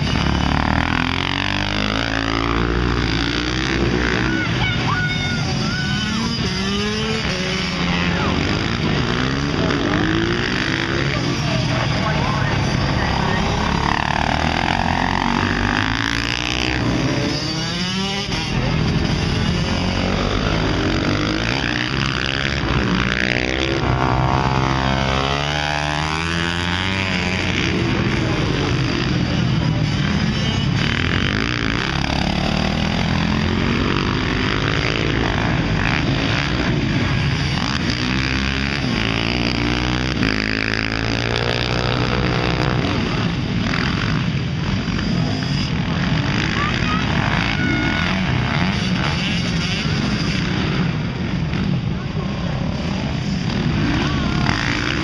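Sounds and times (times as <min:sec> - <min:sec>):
motorcycles racing past revving: 0:00.0 - 0:55.0.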